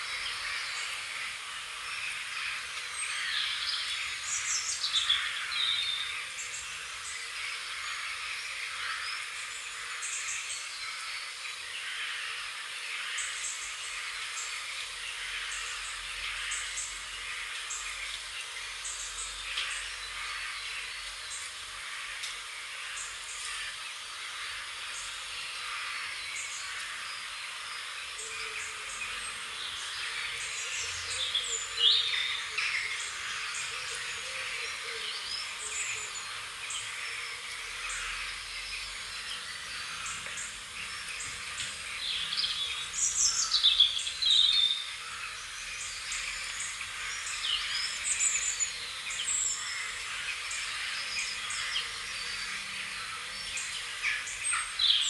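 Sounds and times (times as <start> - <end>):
songbirds chirping: 0.0 - 55.0
steady outdoor hiss: 0.0 - 55.0.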